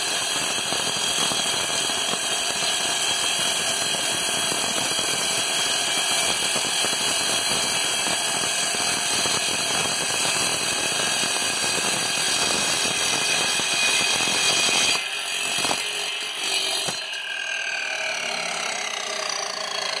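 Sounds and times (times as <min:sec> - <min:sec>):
saw blade grinding through stone: 0:00.0 - 0:20.0
blade winding down whine: 0:00.5 - 0:20.0.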